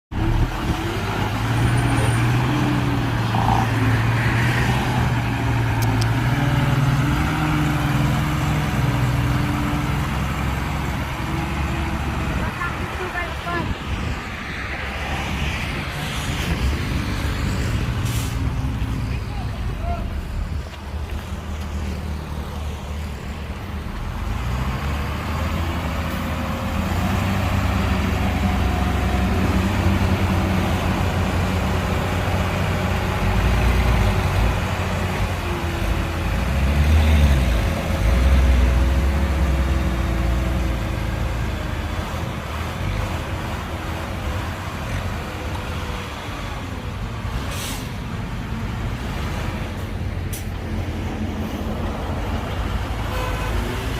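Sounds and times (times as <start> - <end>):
heavy diesel engines revving: 0.1 - 53.9.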